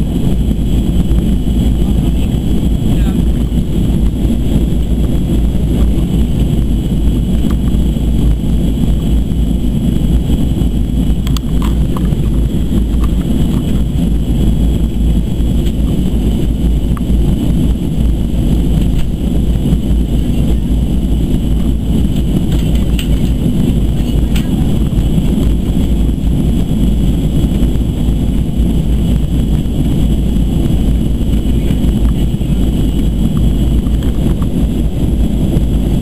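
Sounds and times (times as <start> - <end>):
airliner cabin engine roar: 0.0 - 36.0.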